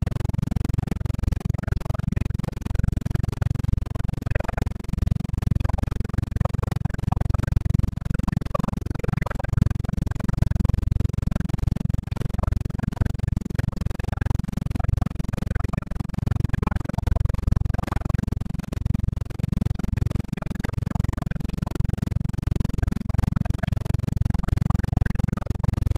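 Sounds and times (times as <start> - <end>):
helicopter engine and rotor drone: 0.0 - 25.9.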